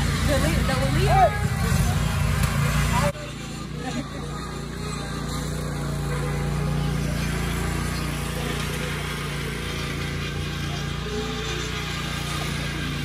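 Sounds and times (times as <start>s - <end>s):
riding mower engines running: 0.0s - 13.0s.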